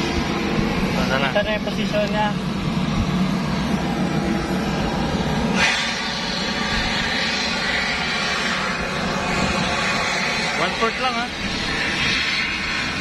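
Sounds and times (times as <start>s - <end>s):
turboprop engine whine: 0.0s - 13.0s.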